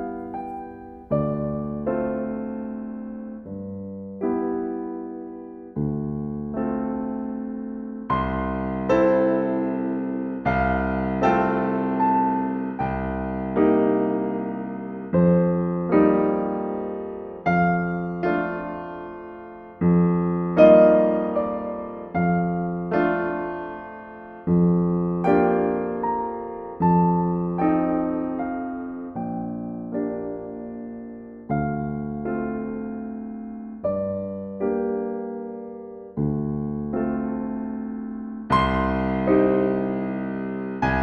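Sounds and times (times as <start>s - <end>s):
slow piano chords: 0.0s - 41.0s.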